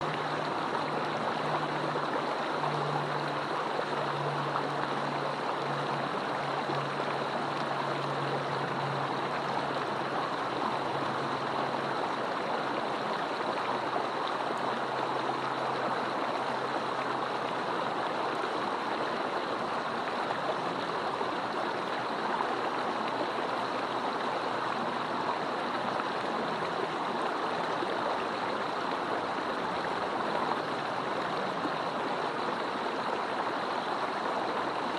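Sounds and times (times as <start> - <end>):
mountain stream rushing: 0.0 - 34.9.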